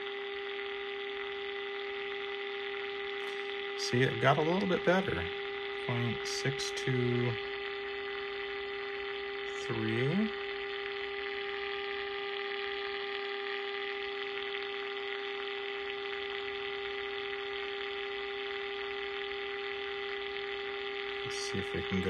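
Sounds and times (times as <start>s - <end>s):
radio speaker test tone: 0.0s - 22.0s.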